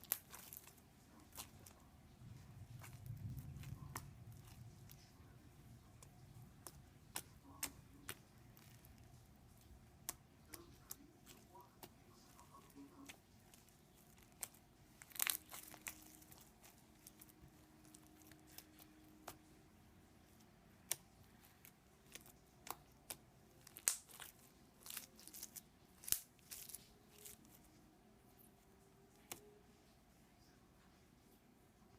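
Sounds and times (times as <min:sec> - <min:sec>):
slime crackling and popping: 0:00.0 - 0:19.6, 0:20.3 - 0:27.7.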